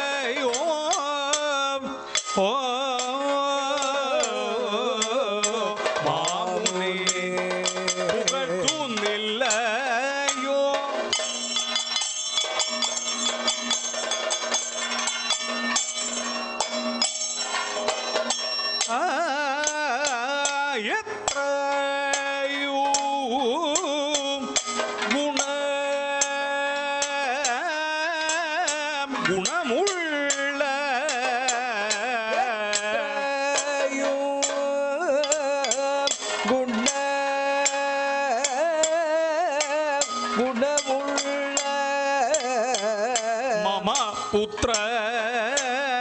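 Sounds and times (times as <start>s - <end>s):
person singing ornamented melody: 0.0s - 11.2s, 18.8s - 46.0s.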